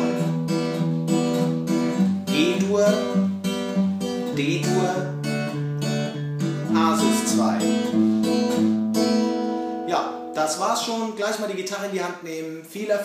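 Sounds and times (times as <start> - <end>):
fingerpicked acoustic guitar: 0.0 - 11.7.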